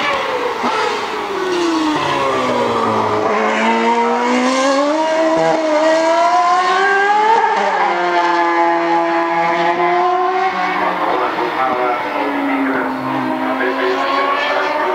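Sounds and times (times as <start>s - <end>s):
racing car engine at high revs: 0.0s - 14.9s.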